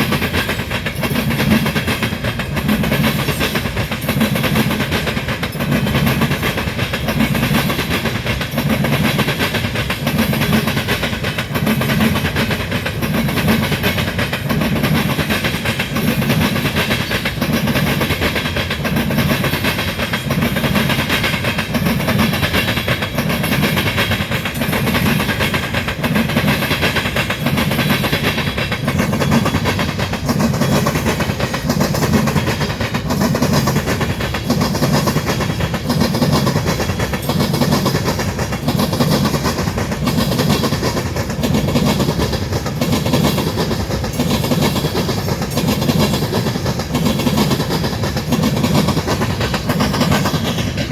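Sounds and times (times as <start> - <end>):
clicks over rail joints: 0.0 - 50.9
train wheels rumbling on rail: 0.0 - 50.9.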